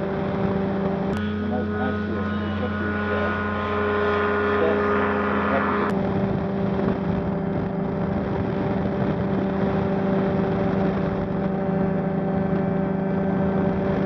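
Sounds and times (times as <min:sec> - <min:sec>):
engine and propeller running: 0:00.0 - 0:14.0.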